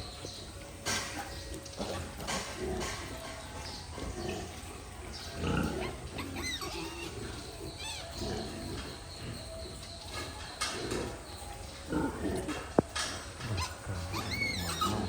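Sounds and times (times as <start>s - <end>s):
pigs grunting: 0.0s - 15.0s
pig high-pitched calls: 1.8s - 11.2s, 11.8s - 15.0s.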